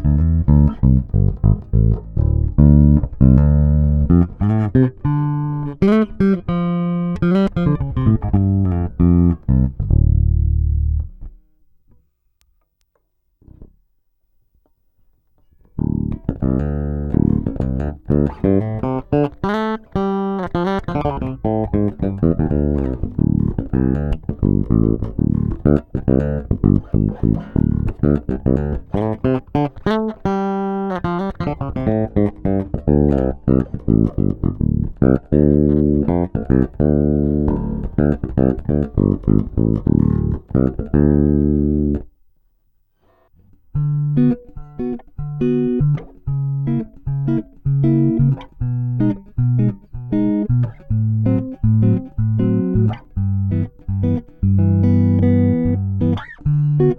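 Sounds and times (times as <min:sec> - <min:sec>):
electric bass plucked notes: 0:00.0 - 0:11.4, 0:15.7 - 0:42.1, 0:43.7 - 0:56.9.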